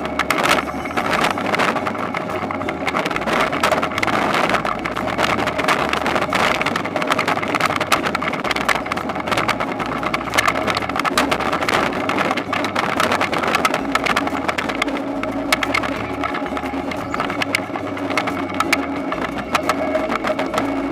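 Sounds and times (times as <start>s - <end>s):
harvester engine running: 0.0s - 20.9s
rattles and clicks: 0.0s - 20.9s.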